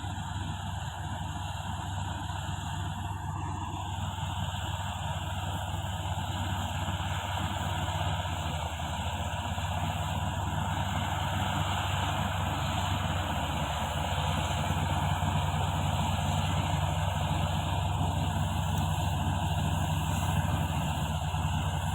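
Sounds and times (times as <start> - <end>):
bulldozer diesel engine droning: 0.0 - 21.9.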